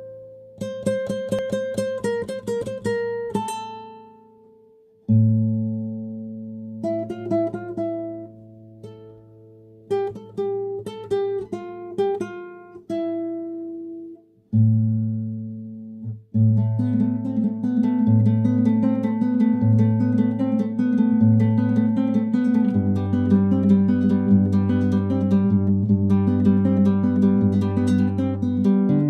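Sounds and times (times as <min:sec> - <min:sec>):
solo classical guitar: 0:00.0 - 0:29.0.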